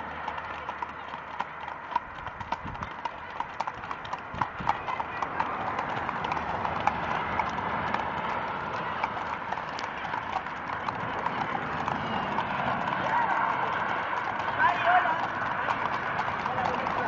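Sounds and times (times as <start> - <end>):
horse hooves on pavement: 0.0 - 17.0.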